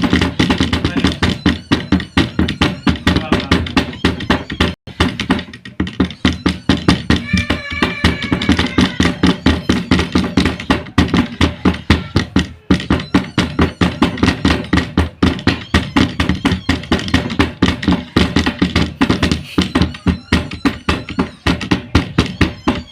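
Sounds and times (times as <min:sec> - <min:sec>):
children banging makeshift drum: 0:00.0 - 0:22.9.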